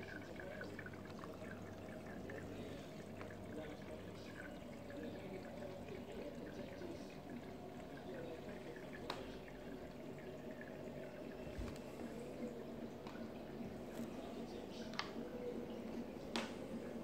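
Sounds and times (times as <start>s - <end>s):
aquarium water bubbling: 0.0s - 17.0s.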